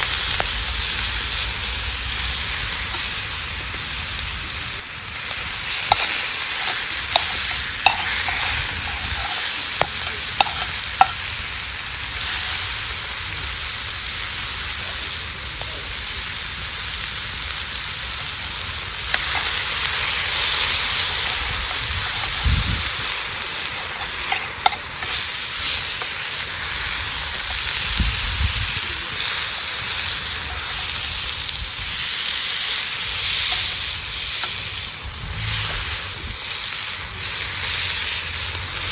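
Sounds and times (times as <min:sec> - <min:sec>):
steak sizzling over a fire: 0:00.0 - 0:38.9.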